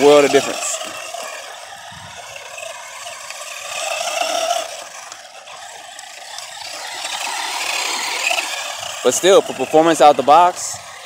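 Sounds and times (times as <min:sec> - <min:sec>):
electric motor and gear whine: 0:00.0 - 0:11.0
tyres scraping and rattling on dirt: 0:00.0 - 0:11.0.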